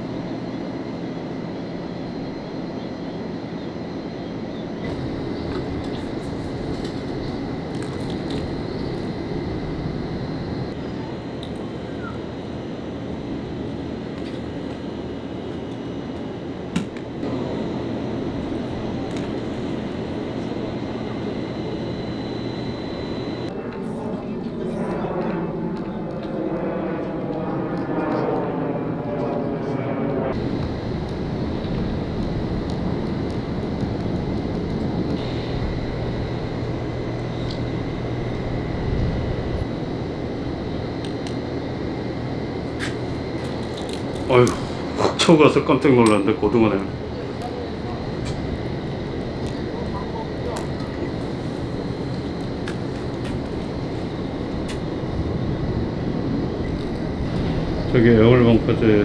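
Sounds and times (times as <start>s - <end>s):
faint high whine: 0.0s - 59.0s
low hum: 0.0s - 59.0s
low mechanical rumble: 0.0s - 59.0s.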